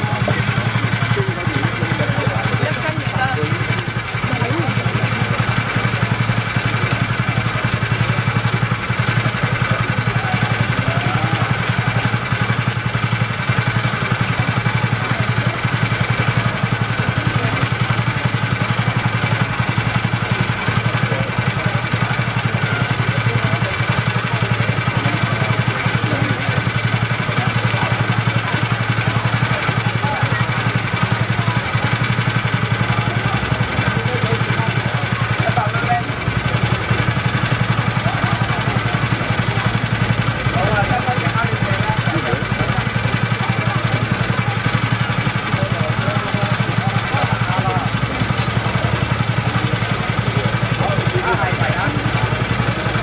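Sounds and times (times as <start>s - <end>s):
electric fish scaler rattling: 0.0s - 53.0s.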